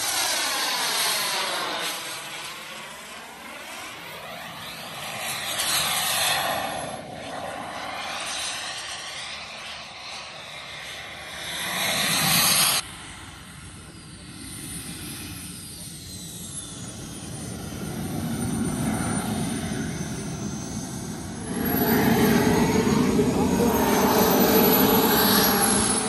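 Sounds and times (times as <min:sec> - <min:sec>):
model jet flying past: 0:00.0 - 0:26.0.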